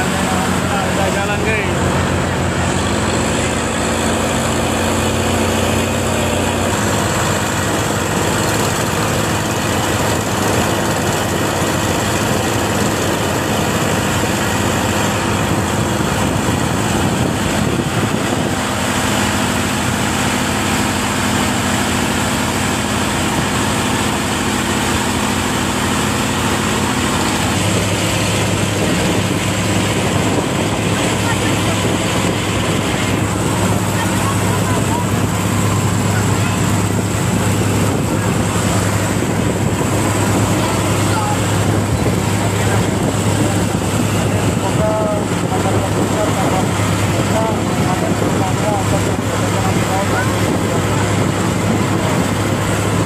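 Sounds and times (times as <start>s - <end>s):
boat engine running: 0.0s - 53.0s.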